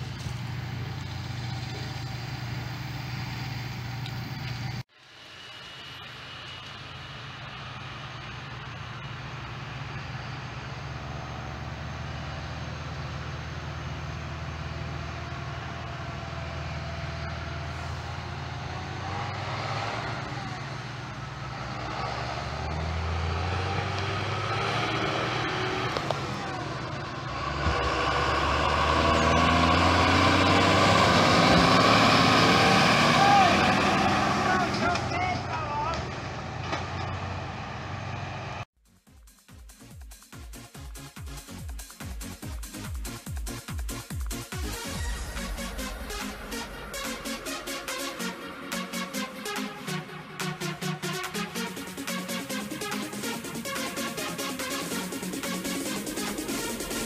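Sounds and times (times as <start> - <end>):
tractor diesel engine passing: 0.0 - 38.7, 43.9 - 57.0.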